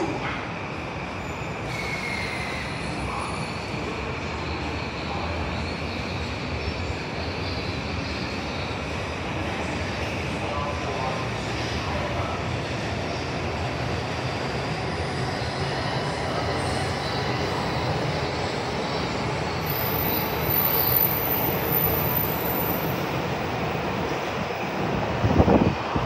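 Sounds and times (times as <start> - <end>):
trains rumbling low: 0.0 - 26.0.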